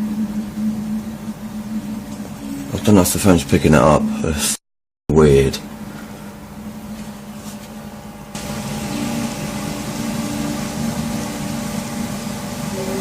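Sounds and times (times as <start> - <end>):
low droning hum: 0.0 - 4.4, 5.4 - 13.0.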